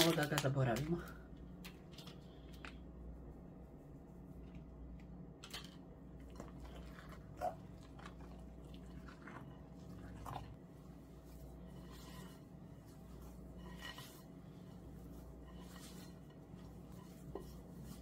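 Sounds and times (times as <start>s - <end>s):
hands kneading dough squishing: 0.0s - 18.0s.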